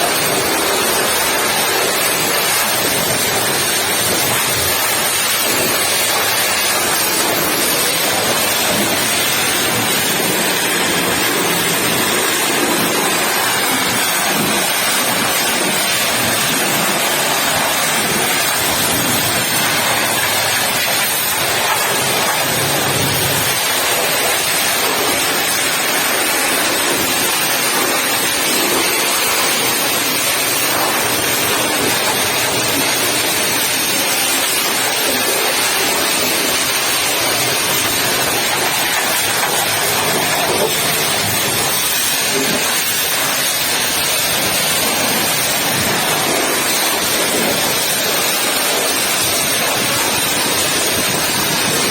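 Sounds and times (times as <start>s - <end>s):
pressure washer spray hissing: 0.0s - 51.8s.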